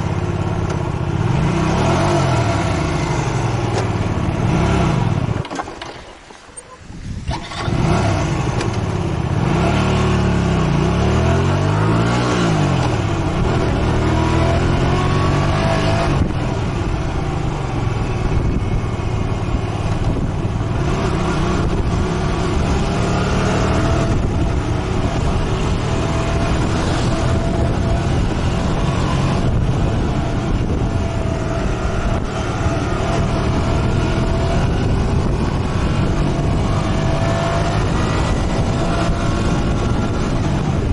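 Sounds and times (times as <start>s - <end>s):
motorcycle engine revving: 0.0s - 5.8s, 7.3s - 40.9s
wind and road noise: 0.0s - 40.9s.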